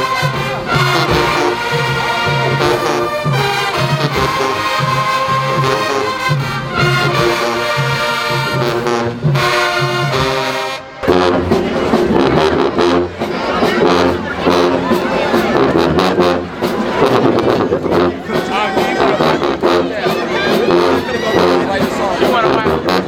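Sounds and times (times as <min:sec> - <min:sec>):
marching band brass playing: 0:00.0 - 0:23.0.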